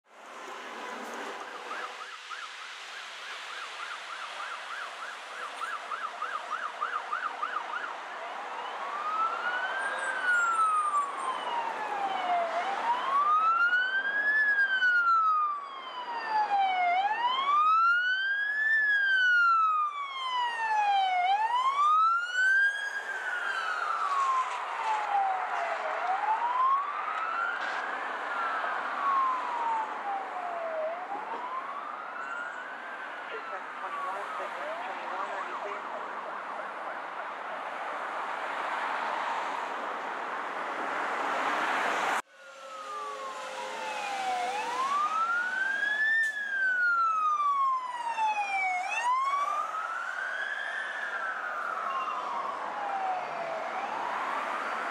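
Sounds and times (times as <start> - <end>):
second siren wailing: 0.7 - 39.6, 41.8 - 54.9
electronic siren yelp and wail: 1.2 - 38.2, 42.2 - 54.9.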